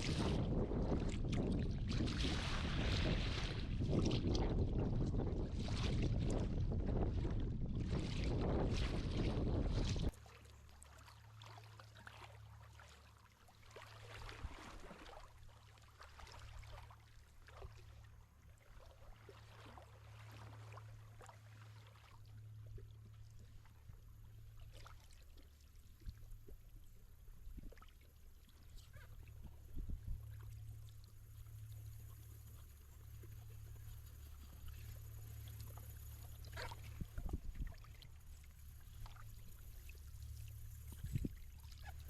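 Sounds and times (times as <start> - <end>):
kayak paddle dipping in water: 0.0 - 42.0
water trickling off paddle: 0.0 - 42.0.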